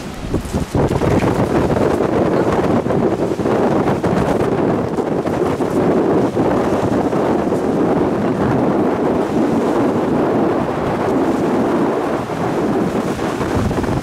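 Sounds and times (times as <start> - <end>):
gusty wind buffeting microphone: 0.0 - 14.0
surf breaking on pebbles: 0.0 - 14.0.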